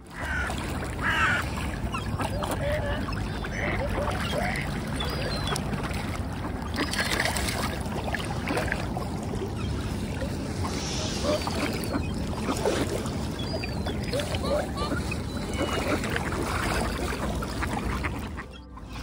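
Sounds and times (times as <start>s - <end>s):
waterbirds splashing in water: 0.0s - 19.0s
bird calls: 0.1s - 7.5s, 9.4s - 19.0s.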